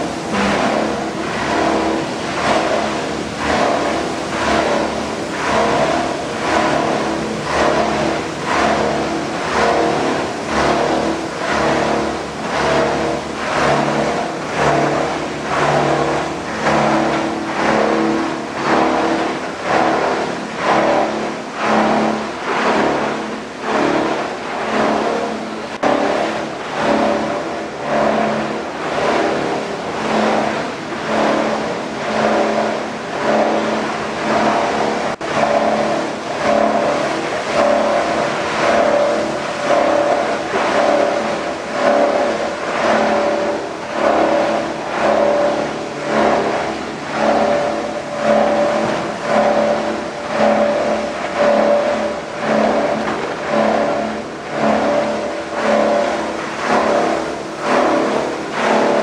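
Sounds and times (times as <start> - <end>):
recycling machinery hum and rumble: 0.0 - 59.0.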